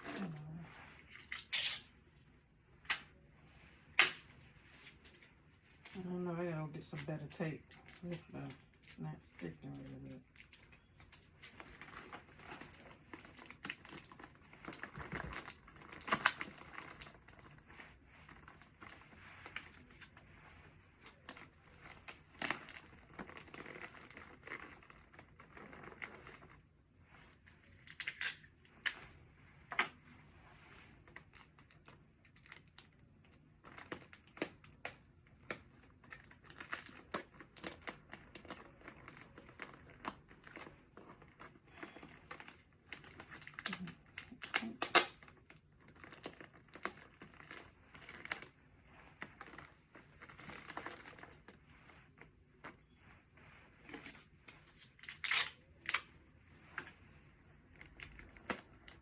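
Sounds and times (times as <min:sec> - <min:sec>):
plastic packaging crinkling: 0:03.9 - 0:30.0, 0:31.0 - 0:57.0.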